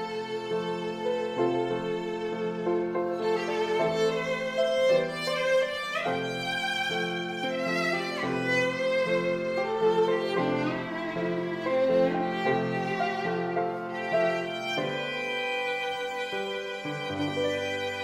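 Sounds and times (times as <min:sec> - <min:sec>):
piano chords: 0:00.0 - 0:18.0
violin melody: 0:00.0 - 0:18.0.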